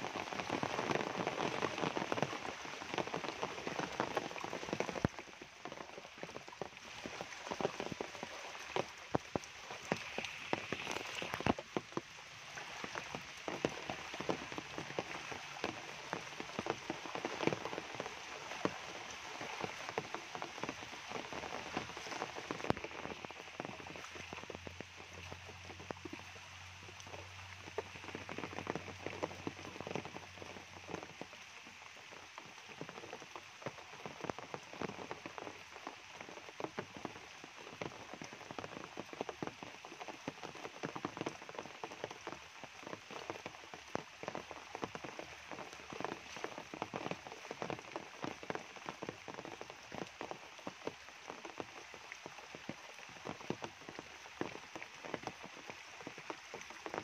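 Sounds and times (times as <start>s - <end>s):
close raindrops striking: 0.0s - 57.0s
steady rain: 0.0s - 57.0s.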